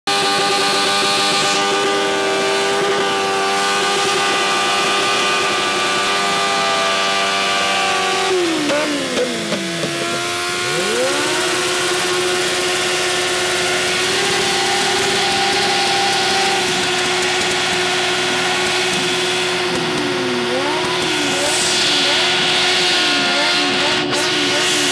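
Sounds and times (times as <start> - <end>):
motorcycle engine at high revs: 0.0 - 24.9.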